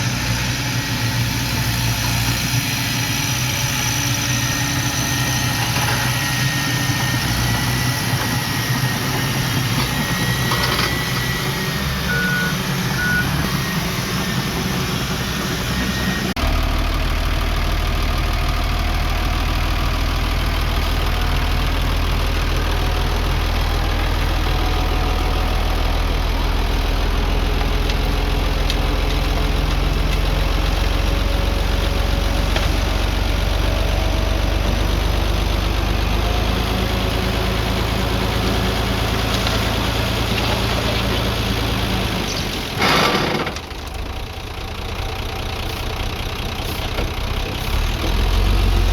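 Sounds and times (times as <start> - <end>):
heavy diesel machinery engines: 0.0 - 48.9.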